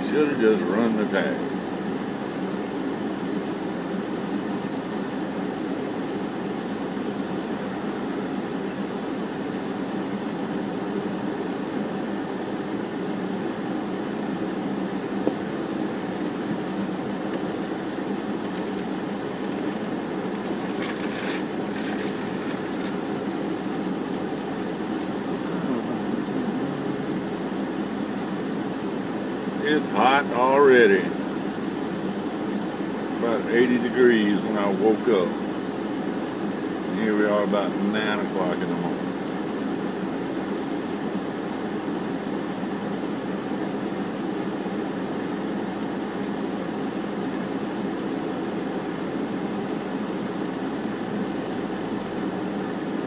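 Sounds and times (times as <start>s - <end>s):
car air conditioning hum: 0.0s - 53.0s.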